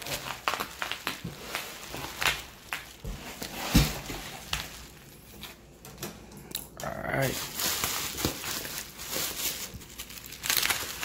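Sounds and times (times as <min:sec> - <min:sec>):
bubble wrap crinkling: 0:00.0 - 0:05.8, 0:06.8 - 0:11.0.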